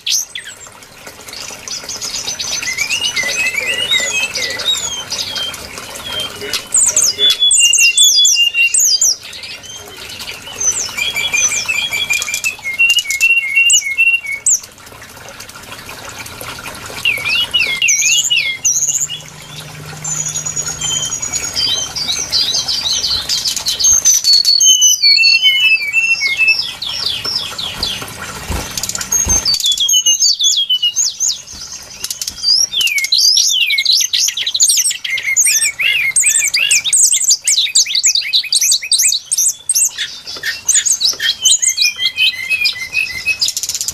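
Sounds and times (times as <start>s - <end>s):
bird whistling and trilling: 1.4s - 14.7s, 17.0s - 43.9s.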